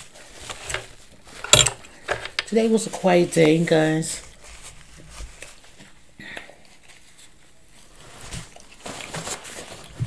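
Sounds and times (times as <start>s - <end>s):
soft handling noises: 0.0s - 10.0s.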